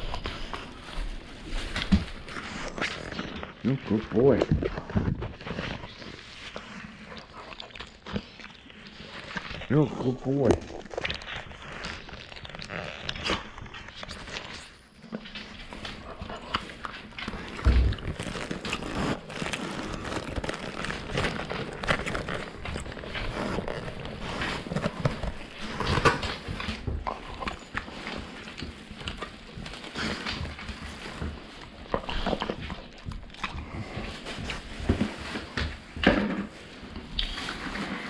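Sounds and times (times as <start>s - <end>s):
dog chewing with mouth clicks: 0.0s - 38.0s.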